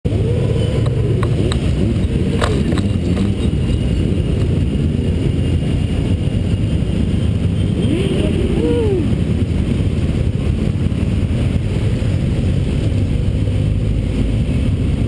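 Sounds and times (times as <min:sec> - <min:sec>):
heavy low rumble: 0:00.0 - 0:15.0
motorcycle engines revving: 0:00.1 - 0:15.0.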